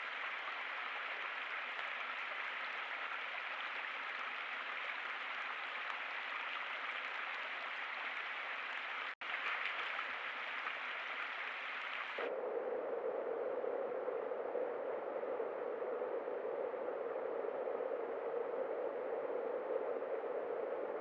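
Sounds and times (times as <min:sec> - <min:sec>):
steady hissing noise: 0:00.0 - 0:21.0.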